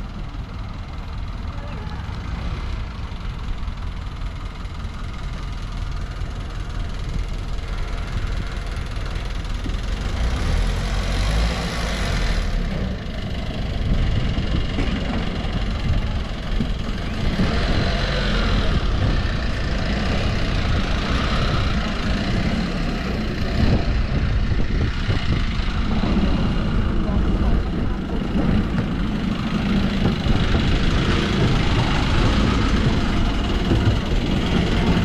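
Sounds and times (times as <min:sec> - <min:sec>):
engine running with low rumble: 0:00.0 - 0:35.0.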